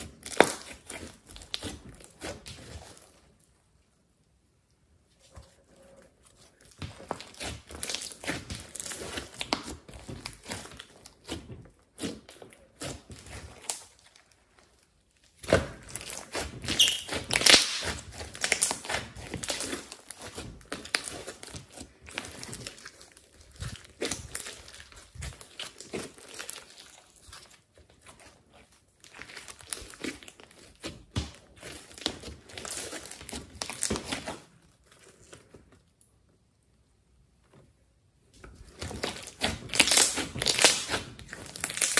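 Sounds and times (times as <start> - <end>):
slime being kneaded: 0.0 - 3.6, 5.0 - 36.0, 38.4 - 41.9.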